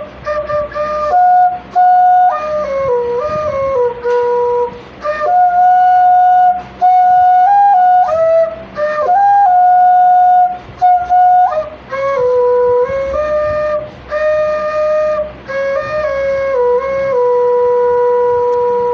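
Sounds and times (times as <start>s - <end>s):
slow solo flute melody: 0.0s - 18.9s.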